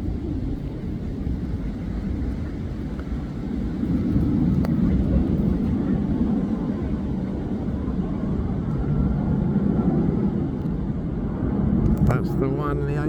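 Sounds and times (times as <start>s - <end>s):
jet airliner rumble: 0.0s - 13.0s.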